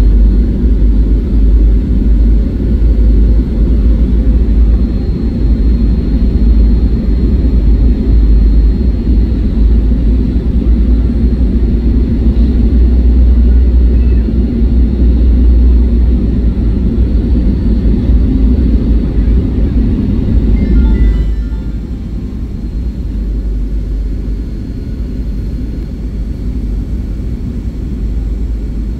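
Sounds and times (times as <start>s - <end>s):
airflow noise in cabin: 0.0s - 28.9s
airliner engine noise: 0.0s - 28.9s.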